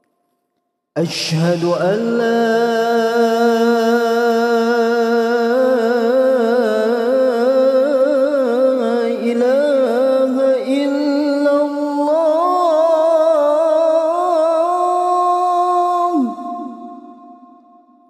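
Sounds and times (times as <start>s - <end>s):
man chanting through microphone: 1.0s - 17.3s.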